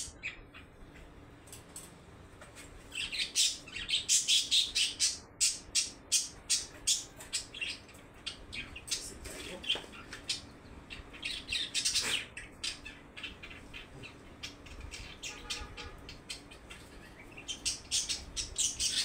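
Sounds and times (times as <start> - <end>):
bird chirping: 0.0 - 1.2, 2.9 - 19.0.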